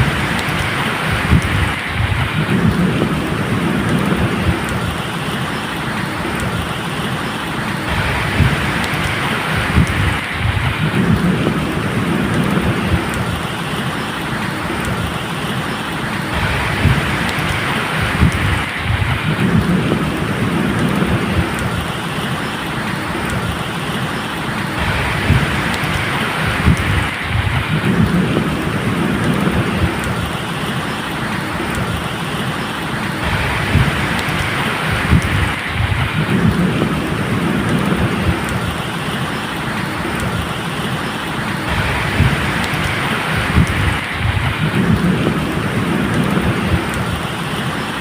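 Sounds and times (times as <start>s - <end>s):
rain falling: 0.0s - 48.0s
thunder rumbling: 0.0s - 48.0s.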